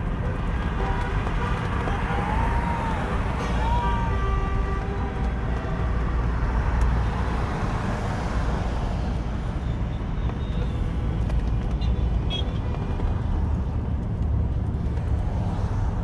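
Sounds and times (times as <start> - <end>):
traffic engines and road noise: 0.0 - 16.0.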